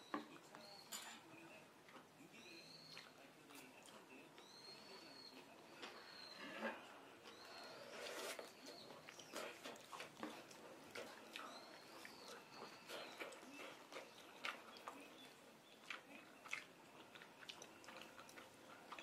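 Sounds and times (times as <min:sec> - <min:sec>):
soft slurps: 0:02.9 - 0:19.0.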